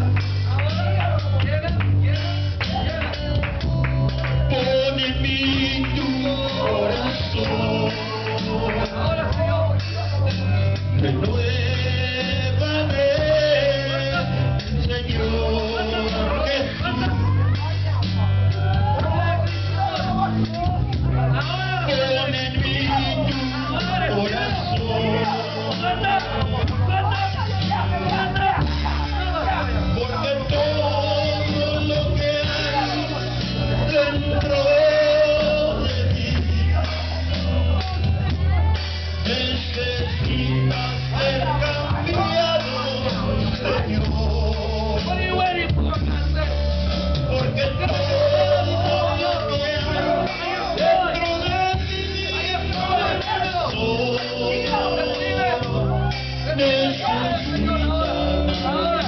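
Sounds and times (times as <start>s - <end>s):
bass and guitar: 0.0s - 59.0s
church worship band playing: 0.0s - 59.0s
person singing: 0.0s - 59.0s.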